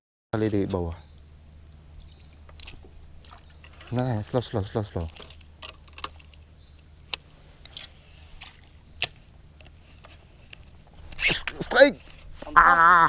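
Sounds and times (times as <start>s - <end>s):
low steady hum: 0.4s - 13.0s.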